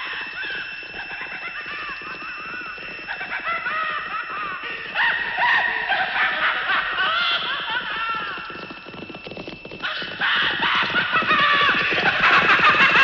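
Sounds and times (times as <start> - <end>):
horse hooves galloping: 0.0 - 13.0.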